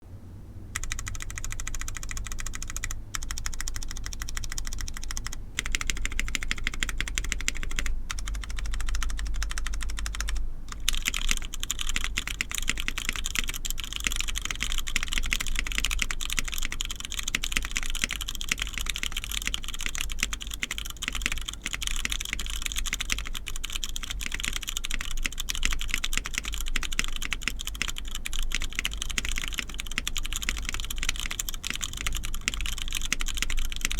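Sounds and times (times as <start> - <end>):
mechanical keyboard typing: 0.7 - 33.9.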